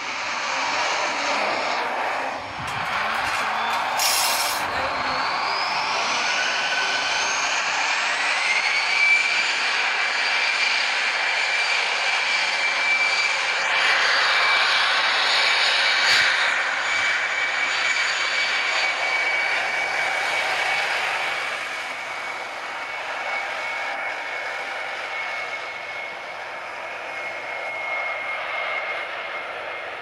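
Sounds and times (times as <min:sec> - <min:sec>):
jet engines at takeoff power: 0:00.0 - 0:30.0.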